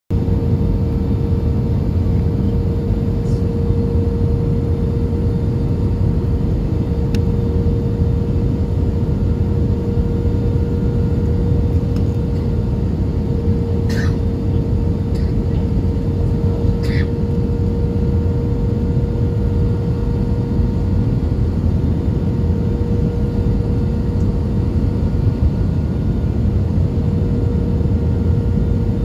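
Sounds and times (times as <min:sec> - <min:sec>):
airliner cabin rumble: 0:00.1 - 0:29.0
constant hum: 0:00.1 - 0:29.0.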